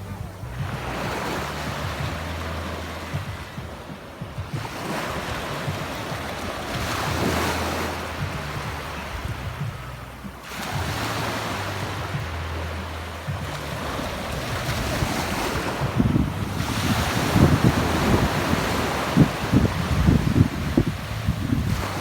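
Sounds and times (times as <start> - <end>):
sea waves washing ashore: 0.0 - 22.0
wind buffeting microphone: 0.0 - 22.0.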